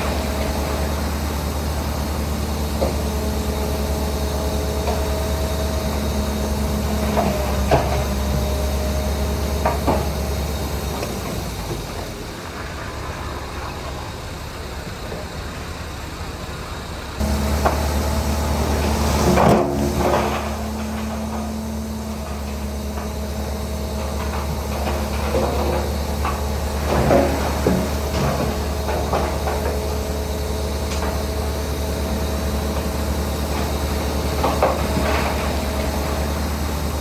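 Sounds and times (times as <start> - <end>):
diesel machinery running: 0.0 - 37.0.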